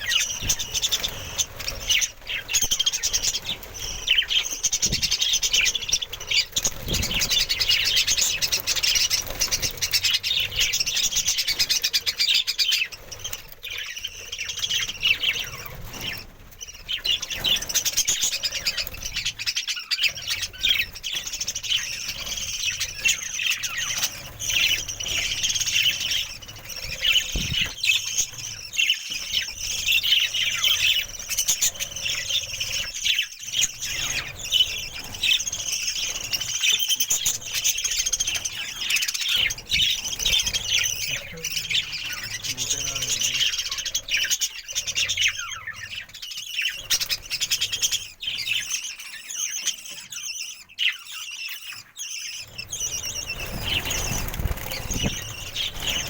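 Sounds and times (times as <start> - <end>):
budgerigars chattering and squawking: 0.0 - 56.0.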